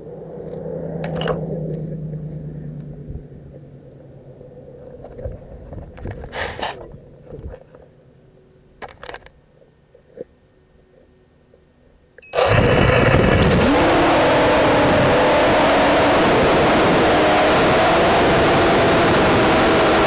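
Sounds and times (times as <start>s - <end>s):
drone motor hum: 0.0s - 20.0s.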